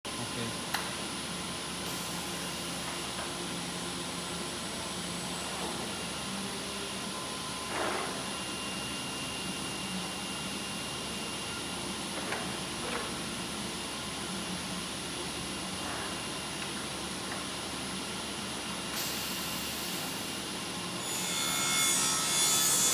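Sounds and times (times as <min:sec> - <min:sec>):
welding machine hiss and hum: 0:00.4 - 0:07.2, 0:08.0 - 0:22.9.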